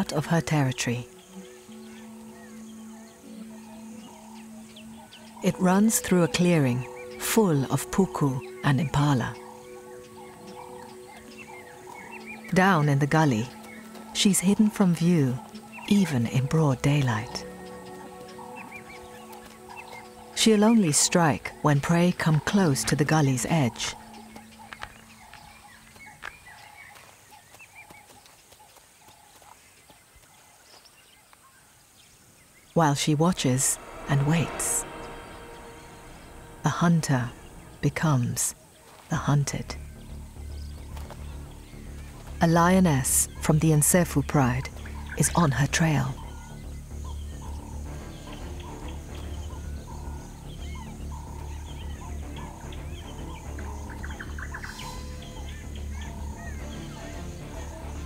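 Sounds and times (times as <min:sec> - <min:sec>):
bird repeating low call: 0:00.0 - 0:27.0, 0:32.8 - 0:58.0
birds chirping: 0:00.0 - 0:58.0.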